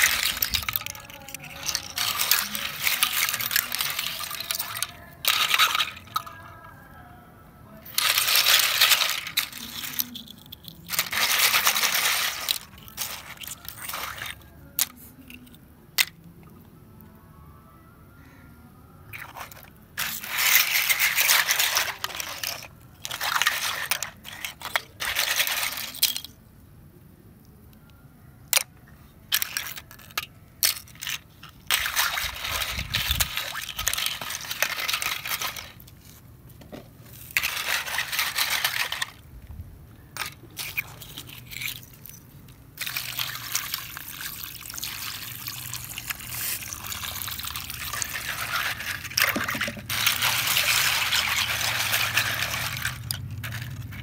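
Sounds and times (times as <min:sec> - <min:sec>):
shells clinking and scraping: 0:00.0 - 0:06.8, 0:07.8 - 0:16.2, 0:19.2 - 0:26.5, 0:28.4 - 0:36.2, 0:37.0 - 0:39.3, 0:40.1 - 0:54.0.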